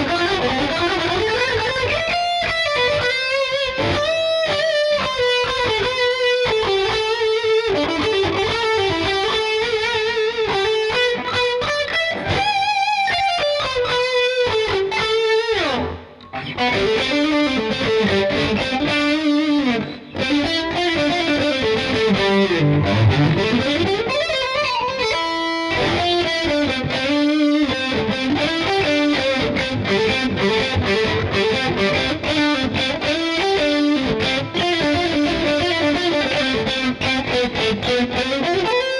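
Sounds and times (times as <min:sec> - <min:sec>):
distorted electric guitar lead: 0:00.0 - 0:38.9.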